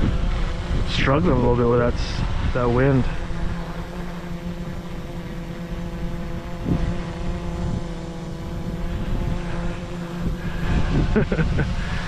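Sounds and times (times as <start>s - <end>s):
drone propellers humming: 0.0s - 12.0s
wind rumbling on microphone: 0.0s - 12.0s.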